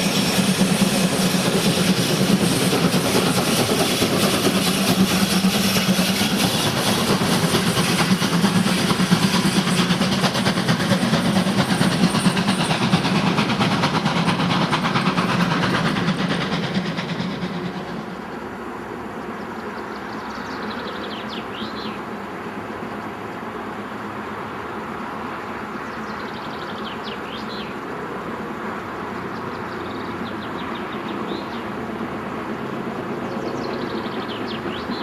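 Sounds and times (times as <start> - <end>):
train passing with rapid rattle: 0.0 - 35.0.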